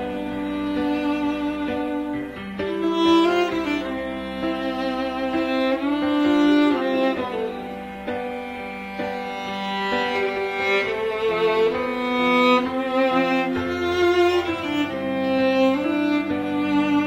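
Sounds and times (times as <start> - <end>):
violin and cello slow melody: 0.0 - 17.0.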